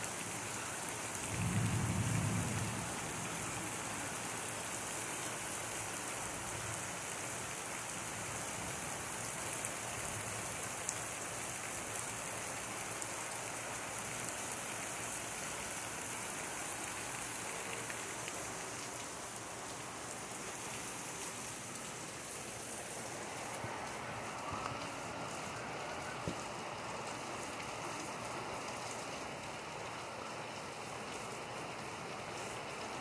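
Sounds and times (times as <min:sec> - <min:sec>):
heavy rain on pavement and roofs: 0:00.0 - 0:33.0.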